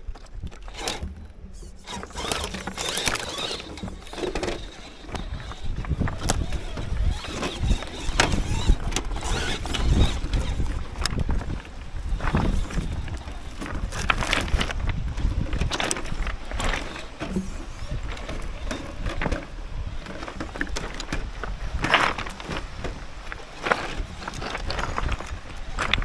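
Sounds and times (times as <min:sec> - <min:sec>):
pebbles crunching under tyres: 0:00.0 - 0:26.0
wind on microphone: 0:00.0 - 0:26.0.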